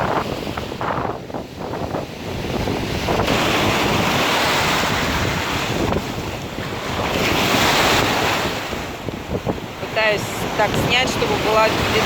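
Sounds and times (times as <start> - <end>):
surf breaking ashore: 0.0 - 12.0
wind buffeting microphone: 0.0 - 12.0.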